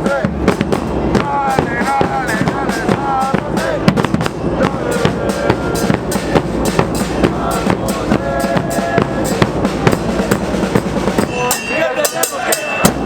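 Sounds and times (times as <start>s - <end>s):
drum-heavy music: 0.0s - 13.0s.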